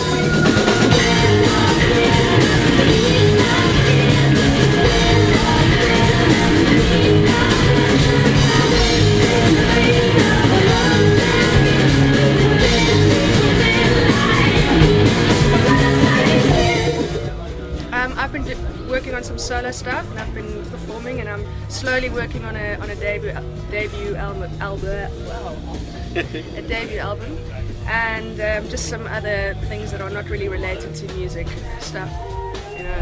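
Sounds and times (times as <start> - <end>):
woman singing into microphone: 0.0 - 17.2, 17.9 - 25.8, 26.5 - 32.4
live band music: 0.0 - 33.0.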